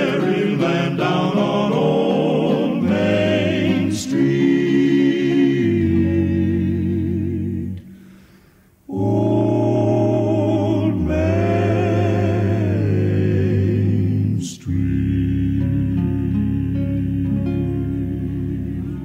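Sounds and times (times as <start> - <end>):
male vocal group singing chords: 0.0 - 8.2, 8.8 - 19.0.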